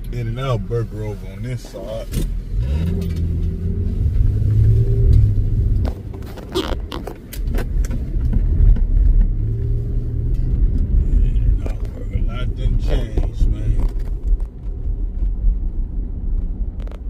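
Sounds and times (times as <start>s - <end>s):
car engine: 0.0s - 17.0s
road rumble: 0.0s - 17.0s.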